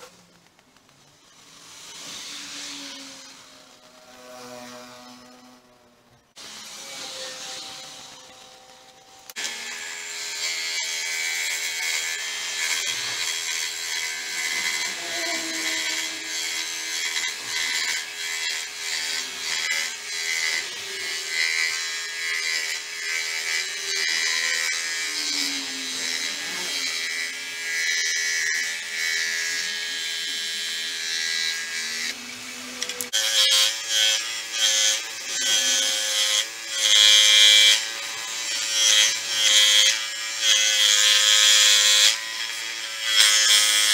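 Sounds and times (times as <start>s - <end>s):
electric power tool running: 0.9s - 43.9s.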